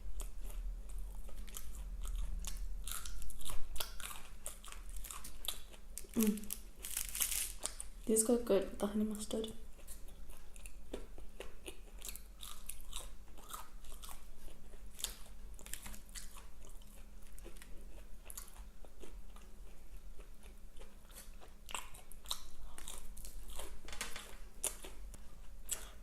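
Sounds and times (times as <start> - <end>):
person chewing crunchy fried food: 0.1 - 8.0, 9.6 - 26.0.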